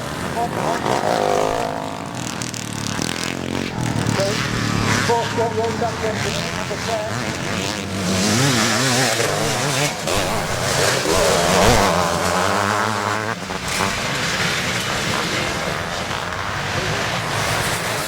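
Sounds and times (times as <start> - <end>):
motocross bikes racing: 0.0 - 18.0.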